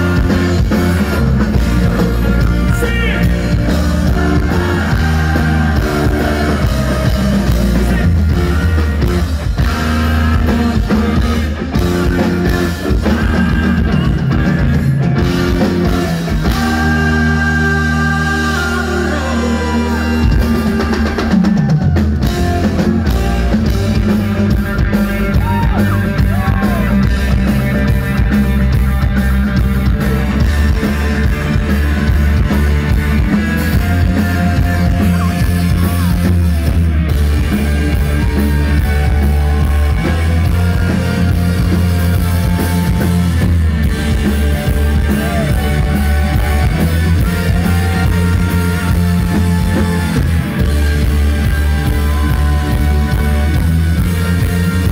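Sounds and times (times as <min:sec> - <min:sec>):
drum kit beat: 0:00.0 - 0:54.9
live rock band playing: 0:00.0 - 0:54.9.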